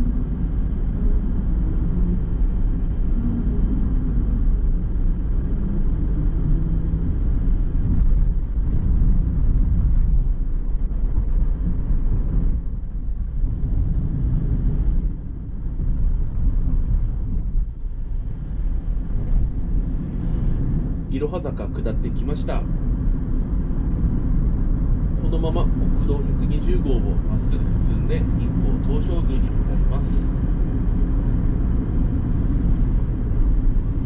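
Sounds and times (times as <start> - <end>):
car road rumble: 0.0 - 34.0.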